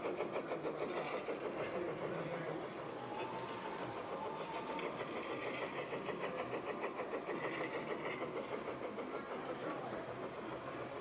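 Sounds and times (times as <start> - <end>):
model locomotive running on track: 0.0 - 11.0.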